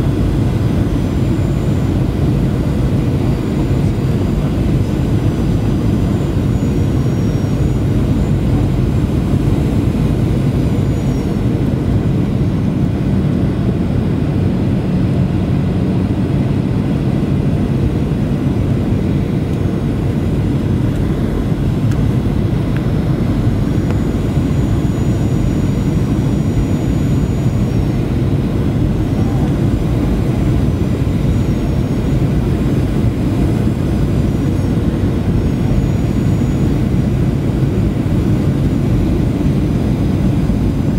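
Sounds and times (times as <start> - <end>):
aircraft engine and airflow rumble: 0.0 - 40.9
faint high engine whine: 0.0 - 40.9.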